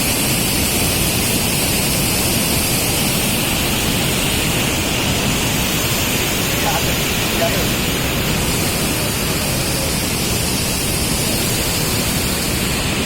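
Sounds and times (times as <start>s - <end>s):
water rushing from a dam: 0.0s - 13.0s.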